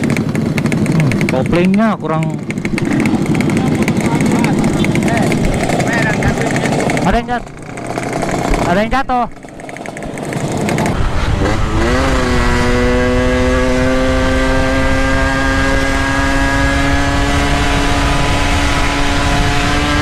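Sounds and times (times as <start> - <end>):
two-stroke motorcycle engine: 0.0 - 20.0.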